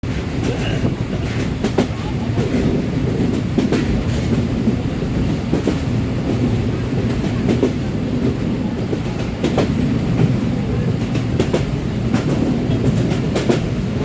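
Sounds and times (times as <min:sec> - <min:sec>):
train rumbling: 0:00.0 - 0:14.0
wheels clacking over rail joints: 0:00.0 - 0:14.0.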